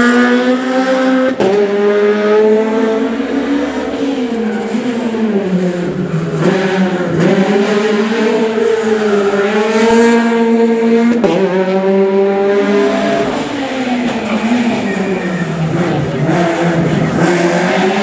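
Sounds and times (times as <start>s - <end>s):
rally car engine revving high: 0.0s - 18.0s.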